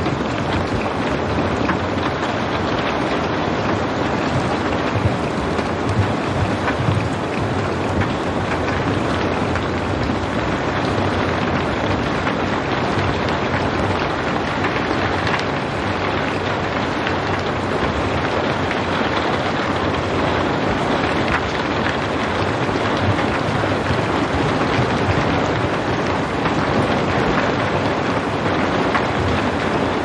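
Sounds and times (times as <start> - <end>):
faint raindrop ticks: 0.0 - 30.0
steady rain hiss: 0.0 - 30.0.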